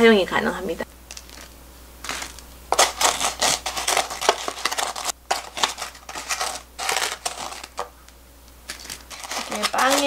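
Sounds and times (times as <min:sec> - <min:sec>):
sugar scraping in plastic tub: 0:01.1 - 0:07.9, 0:08.7 - 0:10.0.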